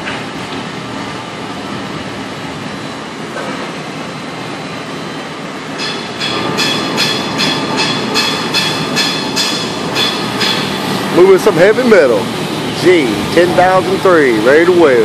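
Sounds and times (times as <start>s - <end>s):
steel-shop machinery noise: 0.0s - 15.0s.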